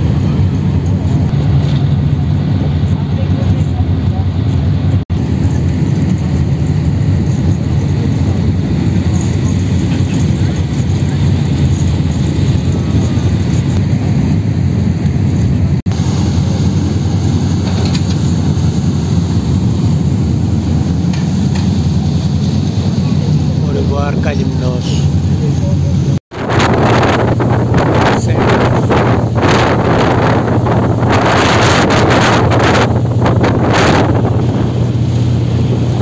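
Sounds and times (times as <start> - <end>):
ferry engines droning: 0.0 - 36.0.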